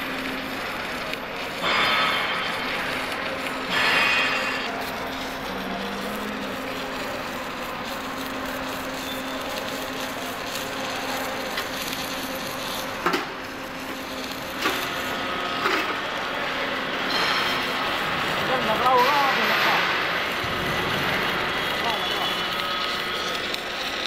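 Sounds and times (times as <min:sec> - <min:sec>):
welding crackling hiss: 0:00.0 - 0:24.0.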